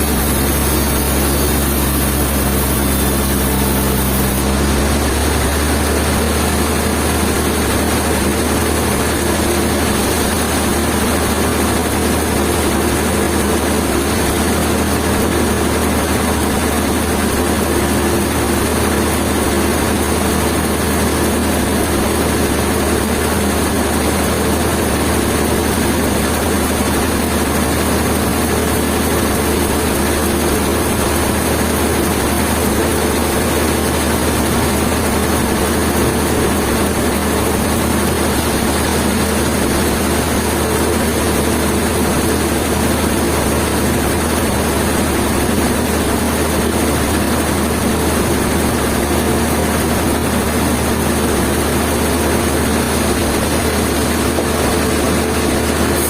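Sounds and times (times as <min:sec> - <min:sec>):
heavy engine running: 0:00.0 - 0:56.0.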